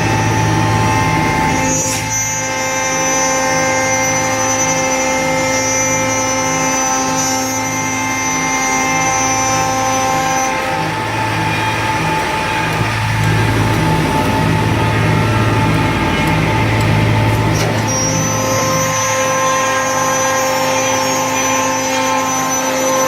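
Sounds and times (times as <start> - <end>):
low pulsing hum: 0.0 - 23.0
wood router spindle whine: 0.0 - 23.0.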